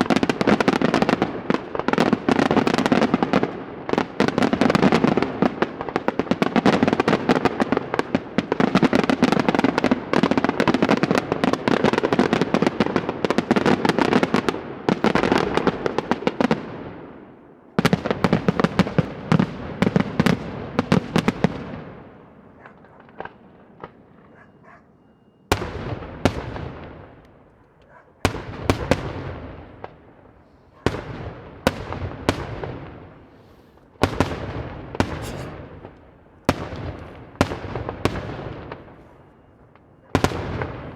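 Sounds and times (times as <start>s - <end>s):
fireworks bangs and crackling: 0.0s - 24.4s, 25.4s - 40.9s.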